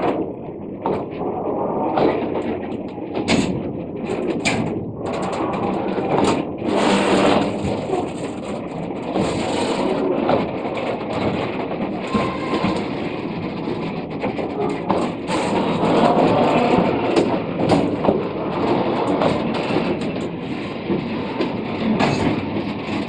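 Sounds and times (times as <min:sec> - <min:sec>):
wheel on rail rumble and rattle: 0:00.0 - 0:23.0
clanks from wheels and couplings: 0:01.9 - 0:23.0.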